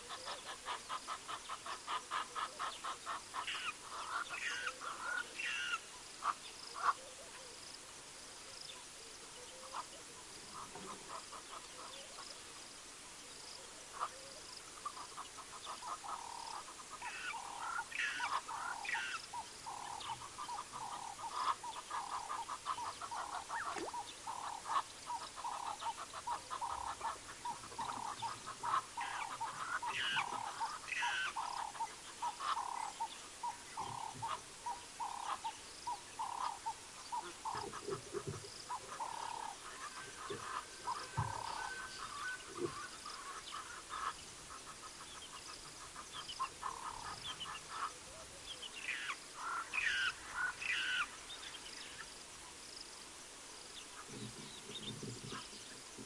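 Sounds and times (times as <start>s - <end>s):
bird calls: 0.0s - 7.7s, 8.5s - 12.5s, 13.3s - 52.6s, 53.6s - 56.0s
frogs calling: 0.0s - 56.0s.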